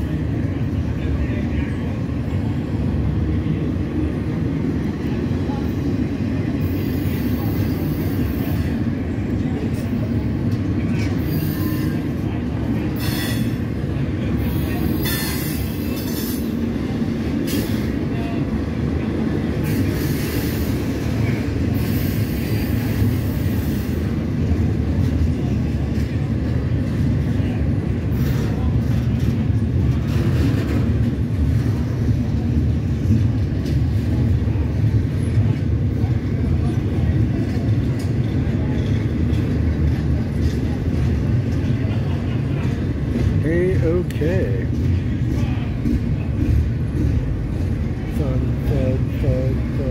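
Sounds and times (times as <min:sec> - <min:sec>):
train wheels rumbling on rail: 0:00.0 - 0:49.9.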